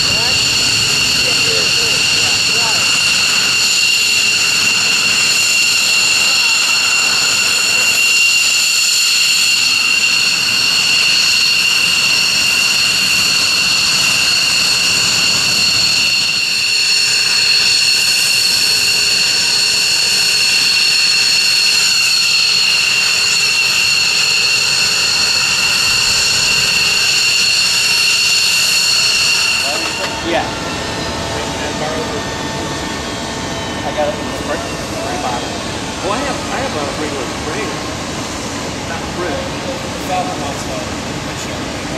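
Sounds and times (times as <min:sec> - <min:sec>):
jet engines idling: 0:00.0 - 0:41.9.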